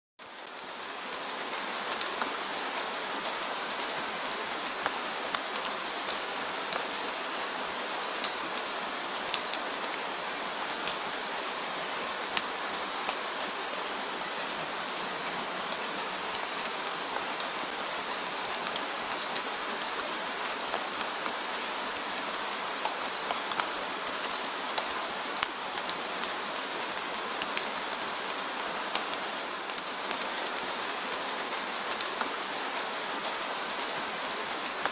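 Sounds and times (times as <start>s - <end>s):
steady rain: 0.2s - 34.9s.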